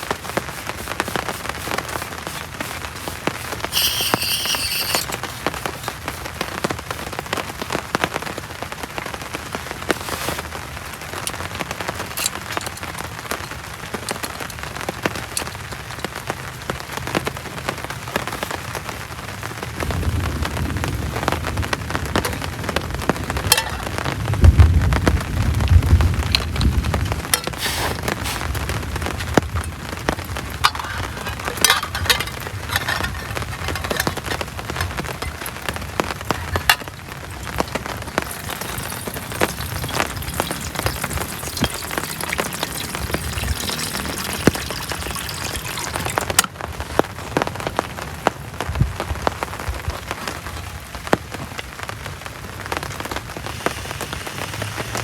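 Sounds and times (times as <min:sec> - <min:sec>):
heavy rain with drop impacts: 0:00.0 - 0:03.8, 0:05.0 - 0:55.0.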